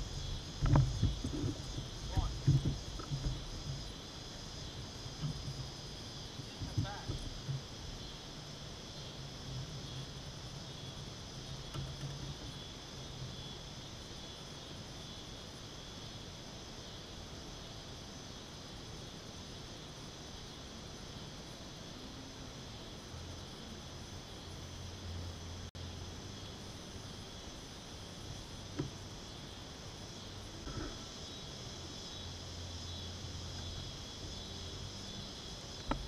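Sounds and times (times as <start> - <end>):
faint low hum: 0.0 - 36.0
insects chorus: 0.0 - 36.0.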